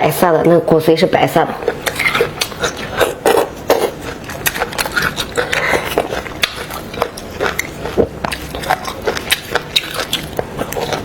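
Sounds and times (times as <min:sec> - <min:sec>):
eating clicks and smacks: 0:01.6 - 0:11.0.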